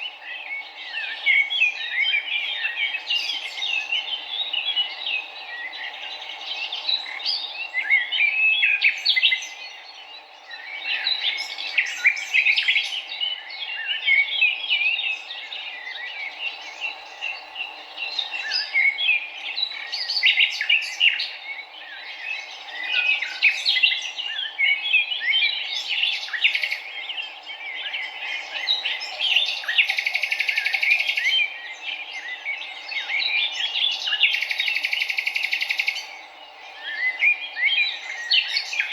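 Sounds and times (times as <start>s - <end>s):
wild birds chirping: 0.0s - 38.9s.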